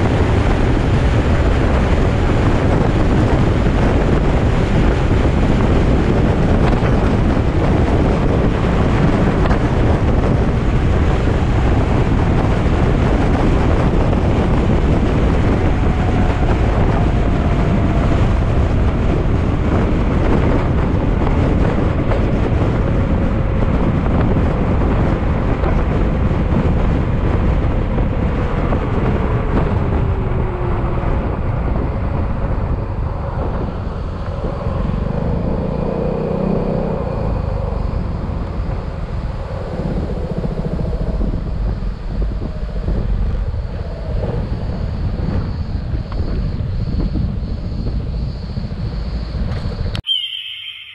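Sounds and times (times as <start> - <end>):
wind rushing on microphone: 0.0 - 50.9.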